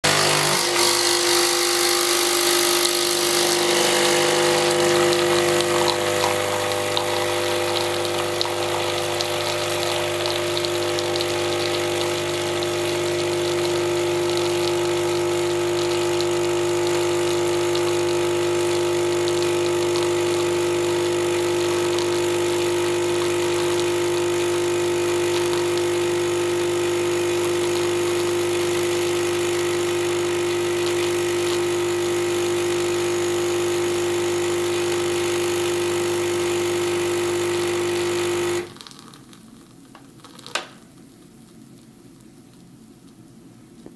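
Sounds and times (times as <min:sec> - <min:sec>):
espresso machine humming: 0:00.0 - 0:38.8.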